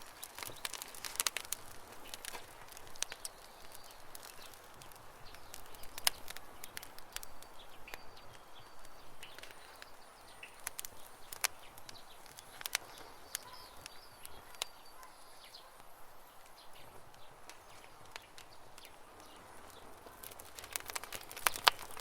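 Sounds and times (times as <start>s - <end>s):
birds chirping: 0.0s - 22.0s
campfire crackling and popping: 0.0s - 22.0s.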